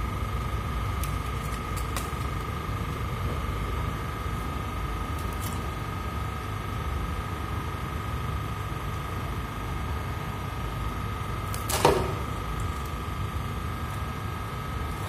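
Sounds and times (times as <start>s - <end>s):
machine hum with thin whine: 0.0s - 15.0s.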